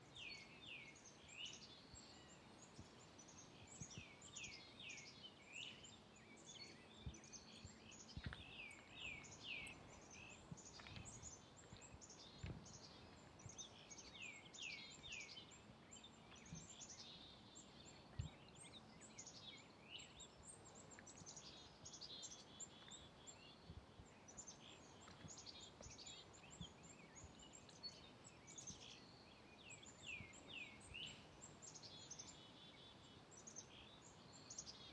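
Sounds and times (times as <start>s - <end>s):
outdoor background noise: 0.0s - 34.9s
songbird chirping: 0.0s - 34.9s.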